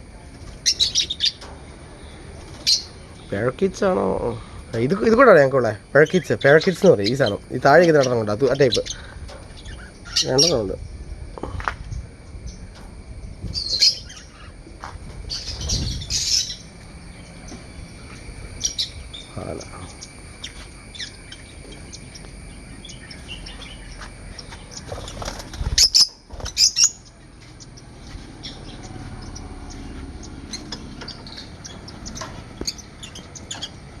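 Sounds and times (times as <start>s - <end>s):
parakeets chirping and chattering: 0.0s - 34.0s.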